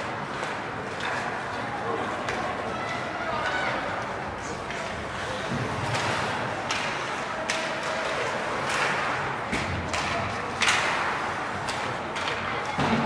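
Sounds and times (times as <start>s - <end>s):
hockey sticks striking puck: 0.0s - 1.6s, 3.9s - 13.0s.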